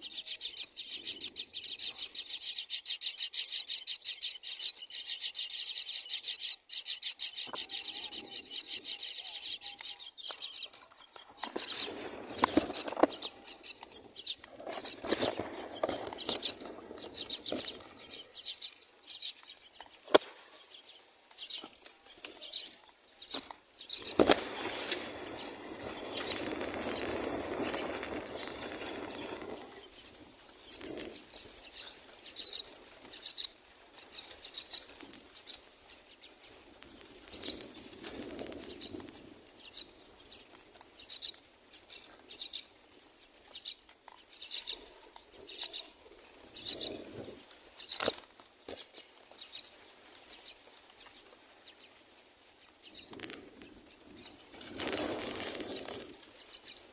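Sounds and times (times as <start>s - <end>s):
nestlings chirping: 0.0s - 42.8s, 43.4s - 49.7s
wings flapping and rustling: 7.4s - 56.9s.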